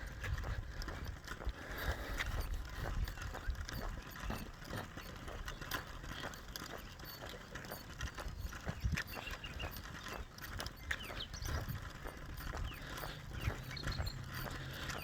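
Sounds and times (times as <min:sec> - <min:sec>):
wind rumble on microphone: 0:00.0 - 0:05.7, 0:08.1 - 0:15.0
footsteps on outdoor path: 0:00.0 - 0:15.0.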